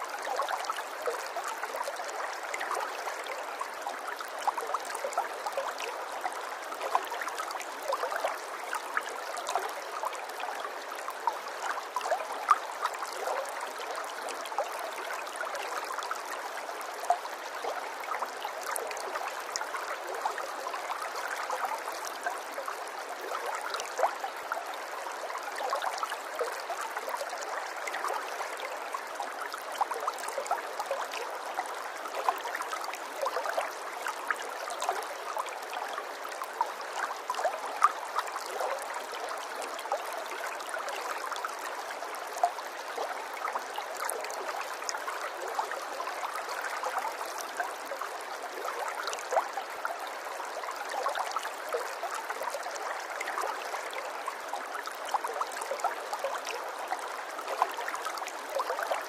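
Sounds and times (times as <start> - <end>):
stream trickling and gurgling: 0.0 - 59.0.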